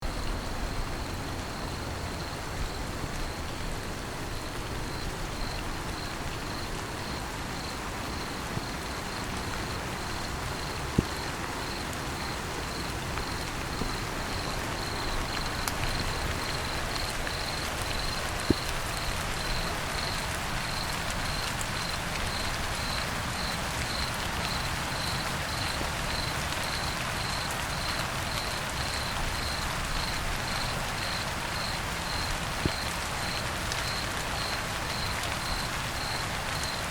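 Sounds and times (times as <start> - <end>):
steady rain falling: 0.0 - 36.9
cricket chirping: 0.1 - 36.8.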